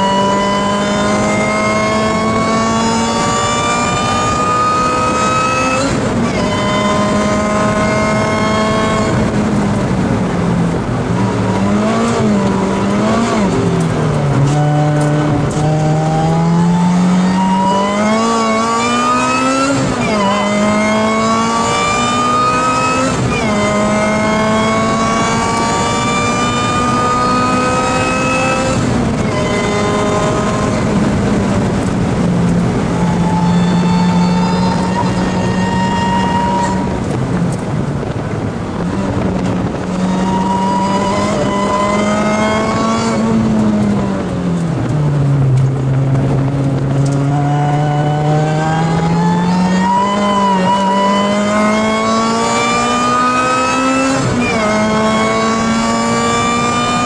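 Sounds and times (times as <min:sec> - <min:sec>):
car engine revving in cabin: 0:00.0 - 0:57.0.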